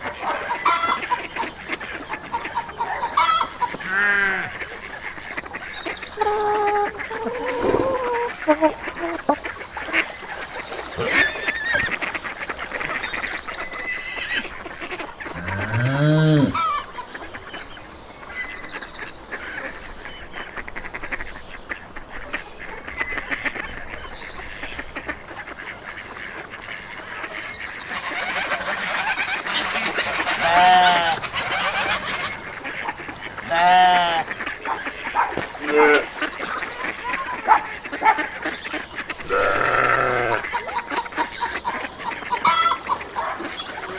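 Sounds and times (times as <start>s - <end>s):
fowl honking and quacking: 0.0s - 43.9s.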